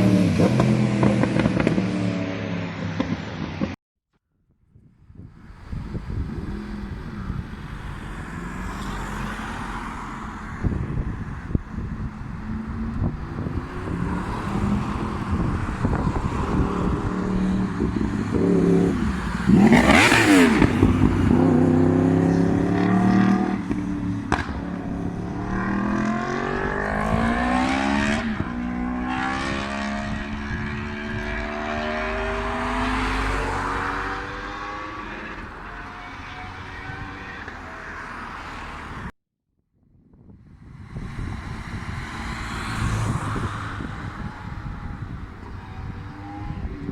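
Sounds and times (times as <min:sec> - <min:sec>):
motorcycle accelerating past: 0:00.0 - 0:03.6, 0:05.7 - 0:37.5, 0:40.9 - 0:46.9.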